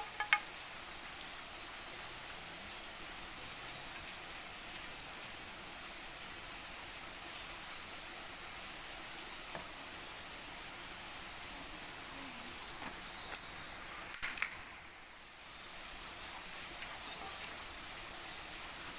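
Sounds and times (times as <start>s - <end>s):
insects buzzing: 0.0s - 18.9s
steady hiss: 0.0s - 18.9s.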